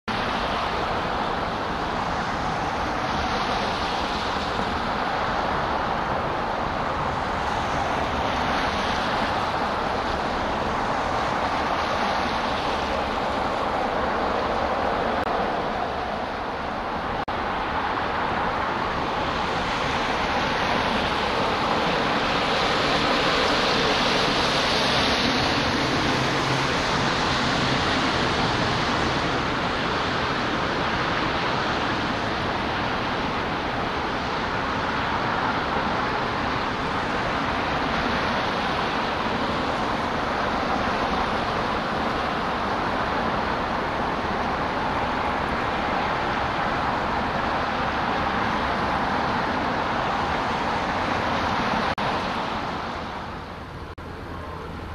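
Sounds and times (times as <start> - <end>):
waterfront ambient wash: 0.0 - 54.9.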